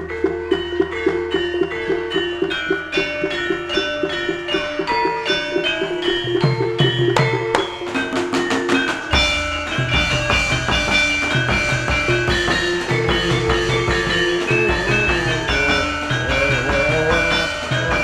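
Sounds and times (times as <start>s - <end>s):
ringing pitched melody: 0.0s - 18.0s
drums and heavy low beat: 2.4s - 18.0s.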